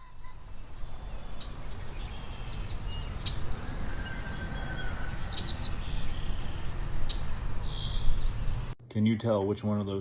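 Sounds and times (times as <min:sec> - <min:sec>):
wild birds chirping: 0:00.0 - 0:08.8.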